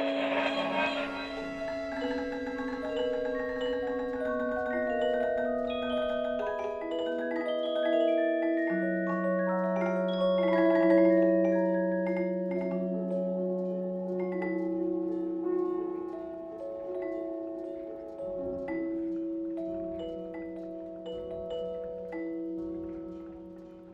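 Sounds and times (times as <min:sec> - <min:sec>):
slow music of ringing notes: 0:00.0 - 0:23.9.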